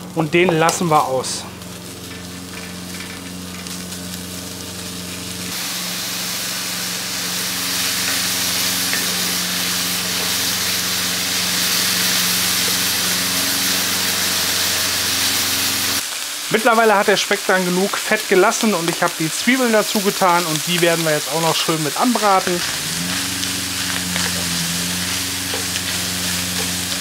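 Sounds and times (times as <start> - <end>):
bacon sizzling in a pan: 0.4 - 27.0.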